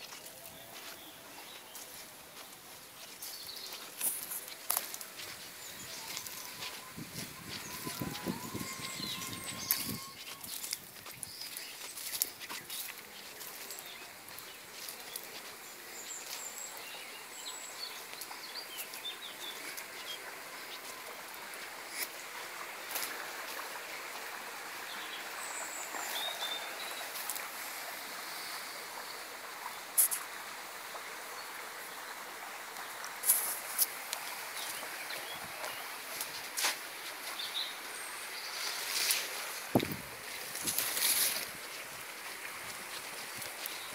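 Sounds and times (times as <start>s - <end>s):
birds chirping: 0.0s - 30.3s, 31.0s - 39.9s
running water: 0.0s - 43.9s.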